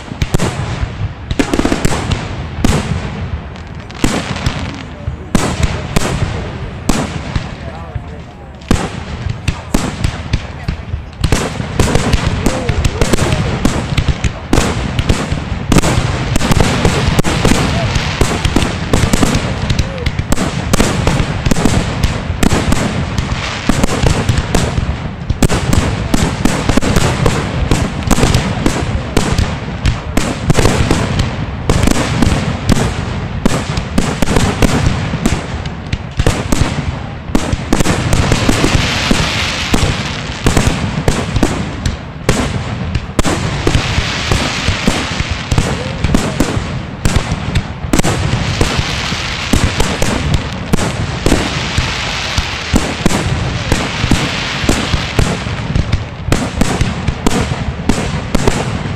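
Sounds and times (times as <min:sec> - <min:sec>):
fireworks bursting booms: 0:00.0 - 0:58.9.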